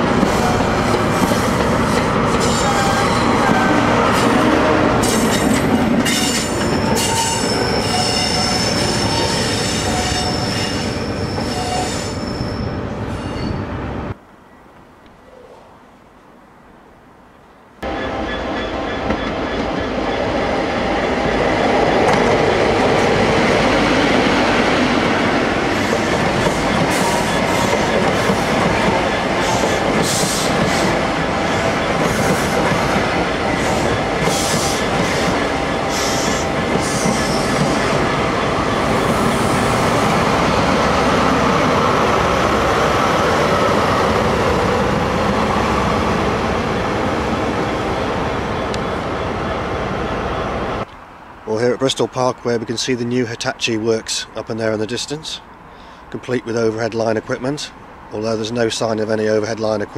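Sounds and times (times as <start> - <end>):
diesel train passing: 0.0 - 59.9.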